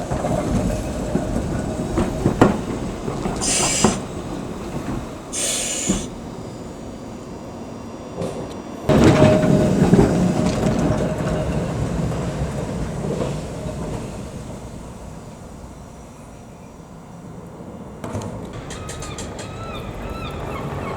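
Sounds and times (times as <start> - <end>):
electric tram rumbling: 0.0 - 20.9
tram whine: 0.0 - 20.9.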